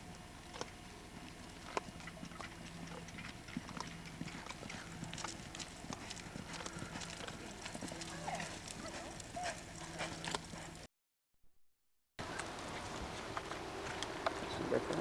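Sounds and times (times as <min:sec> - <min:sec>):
horse hoofbeats on dirt: 0:00.0 - 0:10.9, 0:12.2 - 0:15.0.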